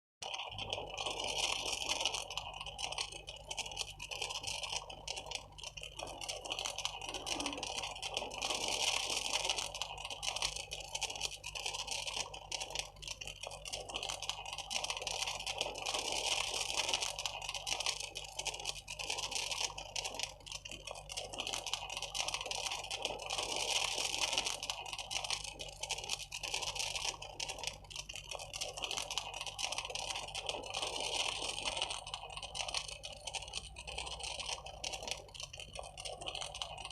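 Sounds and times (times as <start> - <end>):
flame crackling: 0.3 - 36.9.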